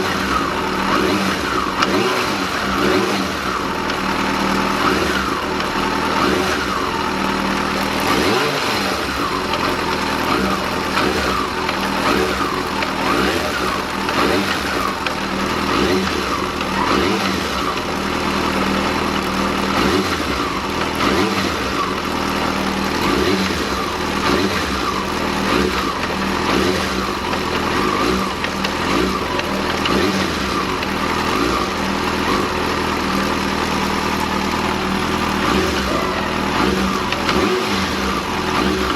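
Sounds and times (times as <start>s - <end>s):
motorcycle engine revving in blips: 0.0s - 38.9s.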